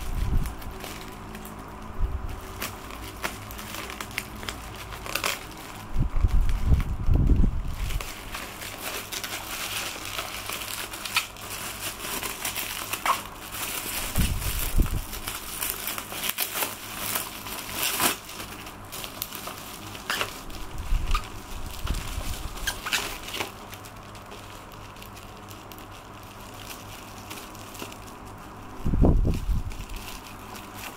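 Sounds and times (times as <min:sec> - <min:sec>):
bubble wrap crinkling: 0:00.0 - 0:30.9.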